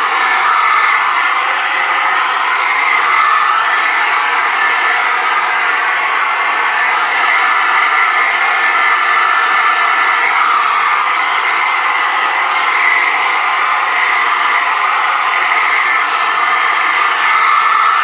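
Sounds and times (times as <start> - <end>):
hairdryer running: 0.0 - 18.0.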